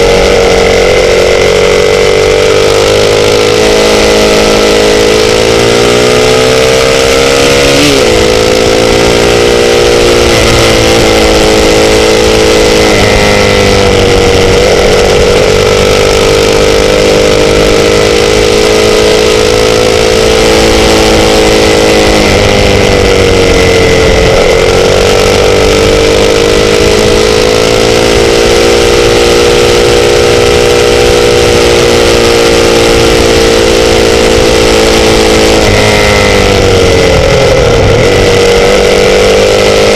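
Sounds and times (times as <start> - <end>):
continuous rushing noise: 0.0 - 39.9
motorcycle engine running: 0.0 - 39.9.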